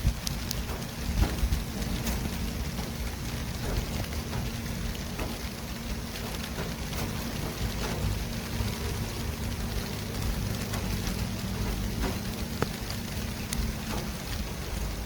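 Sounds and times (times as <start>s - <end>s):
low rumble of vehicles: 0.0s - 15.0s
traffic hiss: 0.0s - 15.0s.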